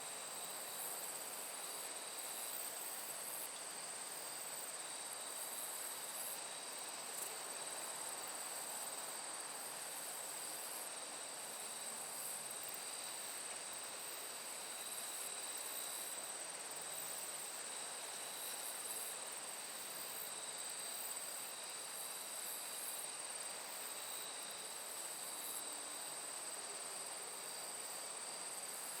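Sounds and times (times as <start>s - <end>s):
crickets and insects trilling: 0.1s - 29.0s.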